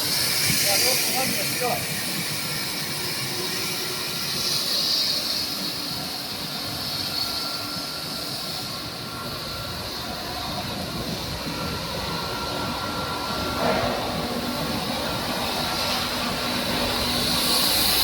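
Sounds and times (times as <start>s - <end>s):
washing machine running: 0.0s - 18.0s
water jets hissing: 0.0s - 18.0s.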